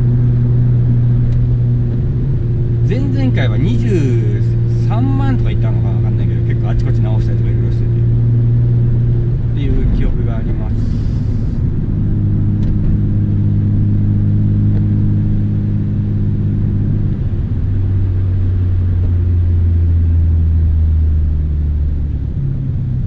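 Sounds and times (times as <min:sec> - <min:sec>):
car engine from inside cabin: 0:00.0 - 0:23.0.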